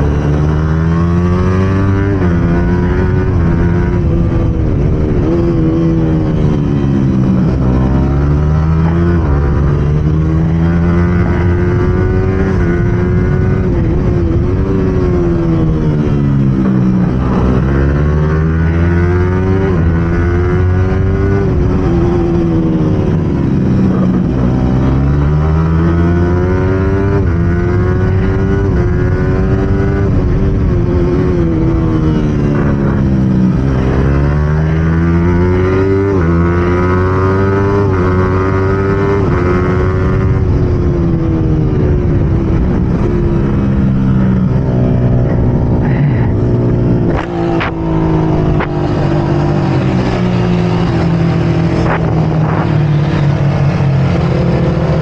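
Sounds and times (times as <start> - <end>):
motorcycle engine revving and shifting: 0.0 - 55.0.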